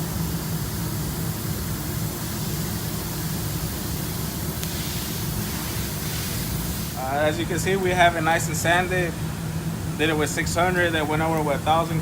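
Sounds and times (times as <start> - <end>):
low machine hum with hiss: 0.0 - 12.0.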